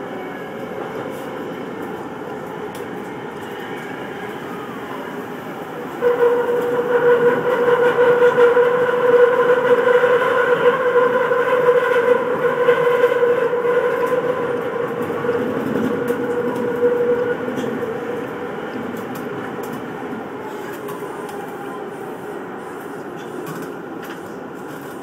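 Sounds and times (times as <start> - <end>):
commuter train running: 0.0 - 25.0
steady train whine: 0.0 - 25.0.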